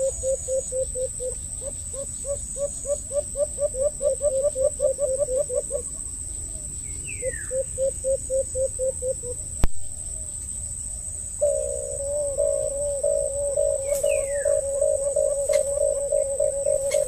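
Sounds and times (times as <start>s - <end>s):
bird hooting calls: 0.0s - 10.3s, 11.4s - 17.0s.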